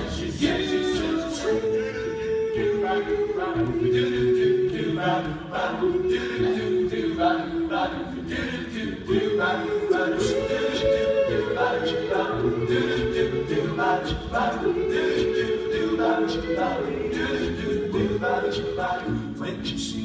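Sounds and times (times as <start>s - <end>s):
male a cappella group singing: 0.0s - 20.0s.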